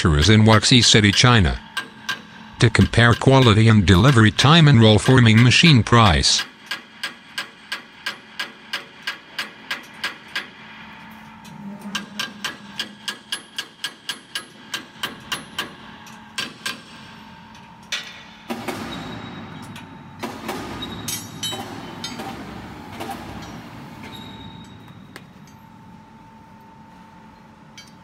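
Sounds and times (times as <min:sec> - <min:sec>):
steady mechanical noise: 0:00.0 - 0:28.0.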